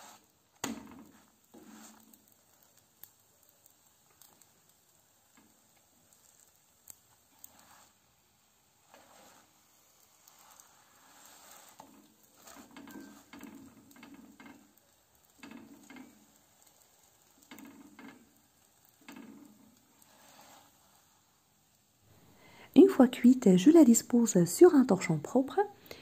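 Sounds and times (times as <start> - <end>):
spatula scraping a pan: 0.0 - 3.2, 3.9 - 21.6
flatbread sizzling in a pan: 0.0 - 22.7.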